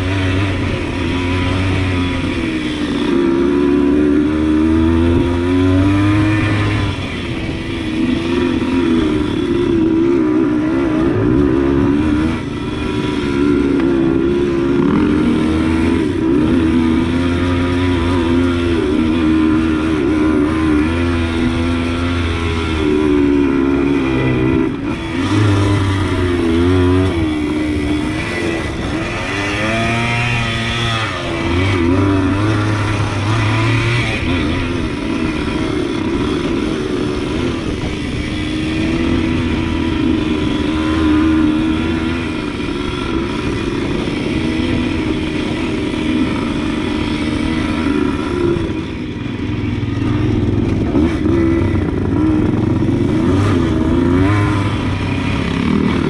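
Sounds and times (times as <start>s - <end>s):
two-stroke dirt bike engine: 0.0s - 56.0s.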